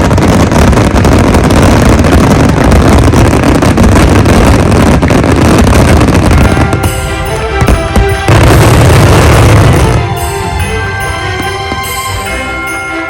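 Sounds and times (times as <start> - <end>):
sharp firework cracks: 0.0 - 12.3
fireworks barrage rumbling: 0.0 - 13.0.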